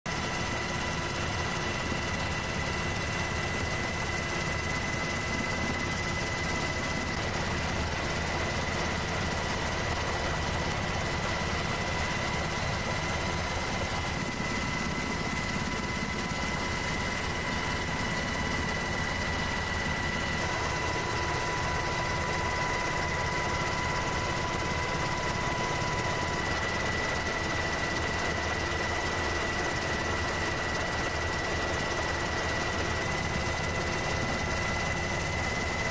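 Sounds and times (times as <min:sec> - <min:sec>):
helicopter engine and rotor noise: 0:00.1 - 0:35.9
high constant whine: 0:00.1 - 0:35.9.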